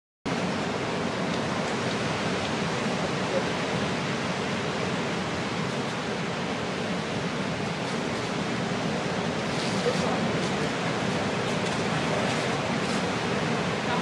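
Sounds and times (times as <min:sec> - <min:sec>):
ocean surf roaring: 0:00.3 - 0:14.0.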